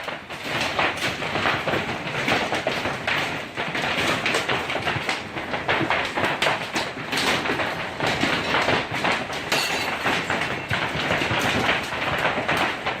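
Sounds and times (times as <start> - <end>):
hail pelting hard surfaces: 0.0 - 13.0.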